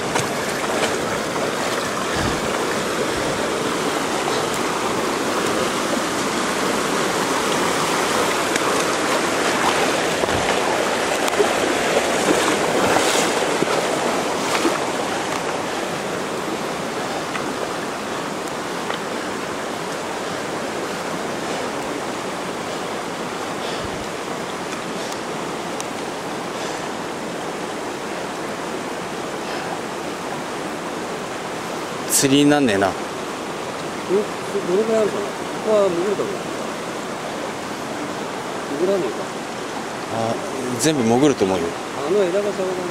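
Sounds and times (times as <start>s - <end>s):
stream rushing over rocks: 0.0s - 42.9s.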